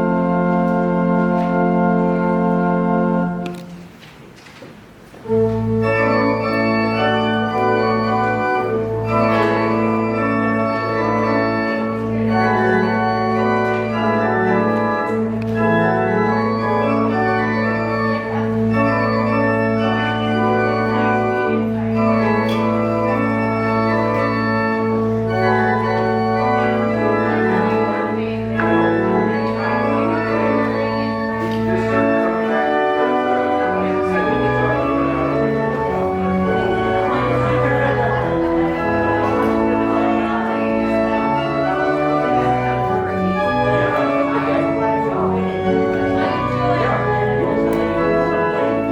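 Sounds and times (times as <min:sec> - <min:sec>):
organ music: 0:00.0 - 0:04.1, 0:04.9 - 0:48.9.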